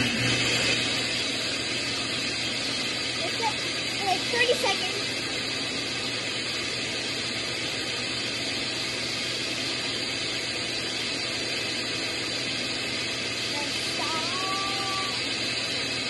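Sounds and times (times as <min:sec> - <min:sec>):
electric mixer running: 0:00.0 - 0:16.0.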